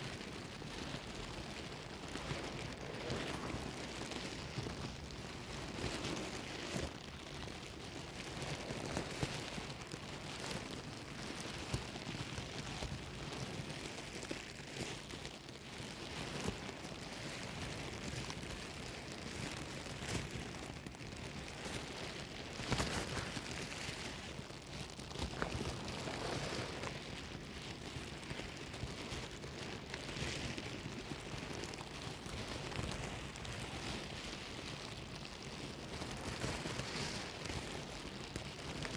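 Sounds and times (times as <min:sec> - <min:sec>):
bag rustling and crinkling: 0:00.0 - 0:15.2, 0:15.8 - 0:38.9.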